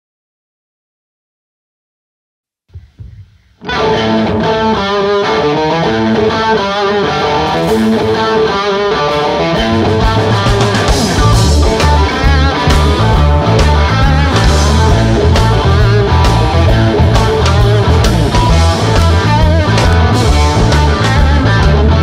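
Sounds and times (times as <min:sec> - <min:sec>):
drums: 0:02.7 - 0:22.0
bass guitar: 0:02.8 - 0:22.0
electric guitar lead: 0:02.8 - 0:22.0.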